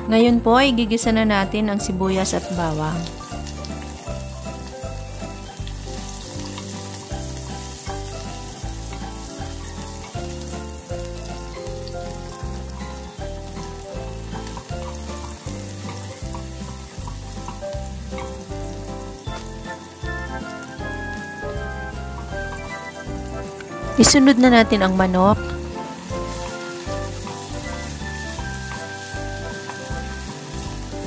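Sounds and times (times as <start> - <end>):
onion sizzling in hot oil: 1.8 - 31.0
background music with beat: 2.2 - 31.0.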